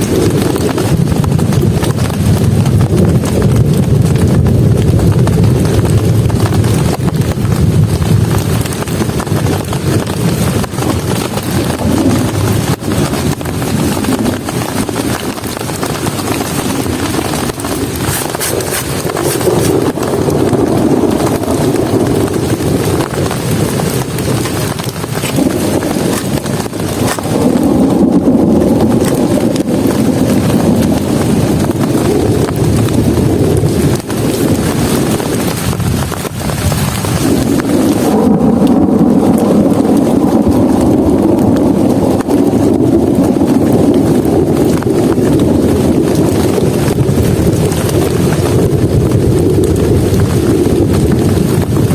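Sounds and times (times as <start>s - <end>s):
heavy rain drumming on shelter: 0.0s - 51.9s.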